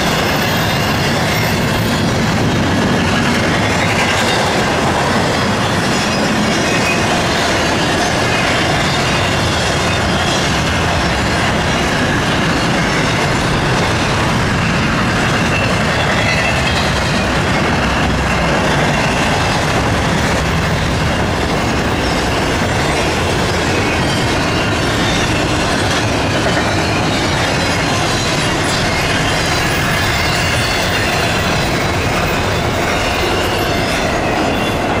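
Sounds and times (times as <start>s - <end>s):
freight train rolling on rails: 0.0s - 35.0s.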